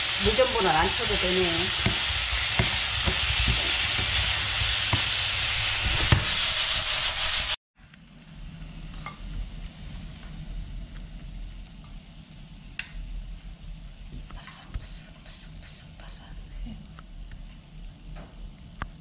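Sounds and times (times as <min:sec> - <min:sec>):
shrimp sizzling in a frying pan: 0:00.0 - 0:07.6, 0:08.5 - 0:15.0, 0:16.8 - 0:19.0.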